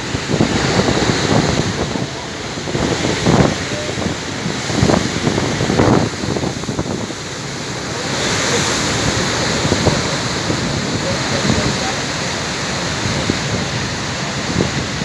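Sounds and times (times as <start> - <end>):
storm waves breaking: 0.0 - 15.0
wind buffeting microphone: 0.0 - 15.0.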